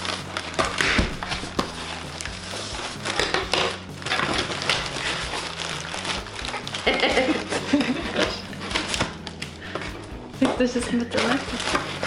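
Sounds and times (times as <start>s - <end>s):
cardboard and plastic rustling: 0.0s - 12.0s
packing tape ripping: 0.0s - 12.0s.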